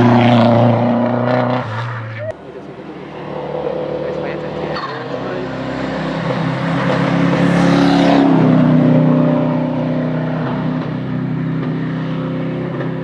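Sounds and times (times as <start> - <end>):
race car passing at high revs: 0.0 - 13.0.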